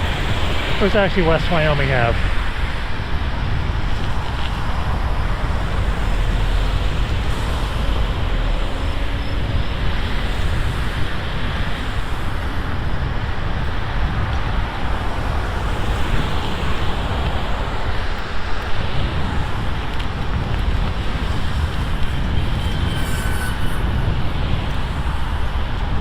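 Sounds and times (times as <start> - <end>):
road traffic: 0.0 - 26.0
wind noise on microphone: 0.0 - 26.0.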